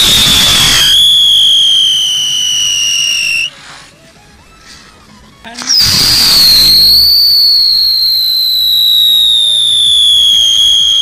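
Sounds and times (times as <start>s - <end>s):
spinning firework whistle: 0.0s - 3.6s, 5.6s - 11.0s.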